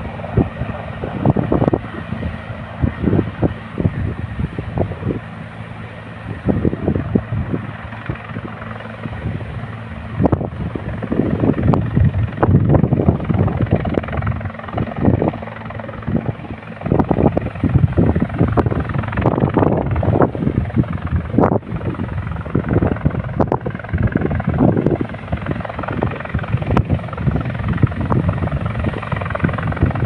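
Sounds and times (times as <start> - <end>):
helicopter rotor drone: 0.0 - 30.0
wind buffeting microphone: 0.0 - 30.0.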